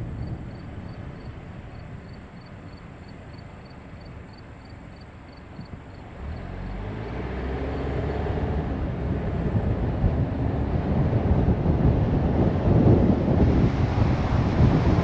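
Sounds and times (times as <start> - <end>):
car engine: 0.0 - 15.0
road noise: 0.0 - 15.0
wind noise: 0.0 - 15.0.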